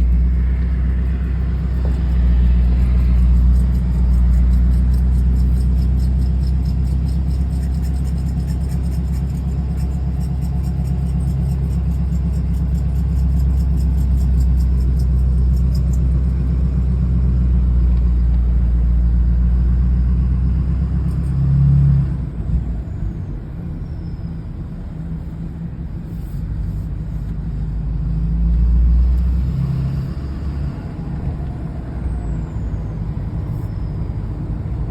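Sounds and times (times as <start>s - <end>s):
diesel truck engine rumbling: 0.0s - 34.9s.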